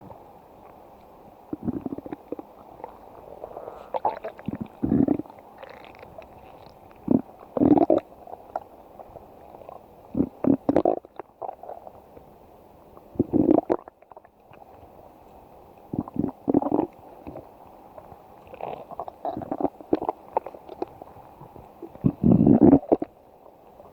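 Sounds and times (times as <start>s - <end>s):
faint steady hiss: 0.0s - 23.9s
stomach growling: 1.5s - 12.0s, 13.1s - 14.7s, 15.9s - 23.2s.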